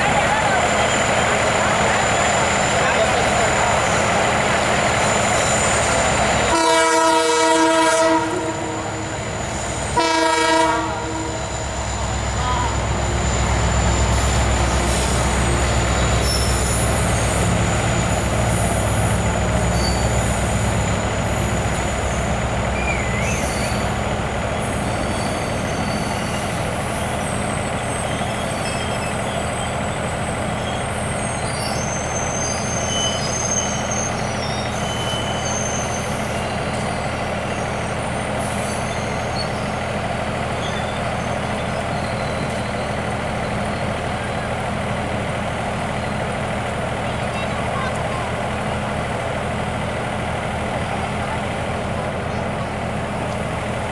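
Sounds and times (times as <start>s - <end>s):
train engine rumbling: 0.0s - 53.9s.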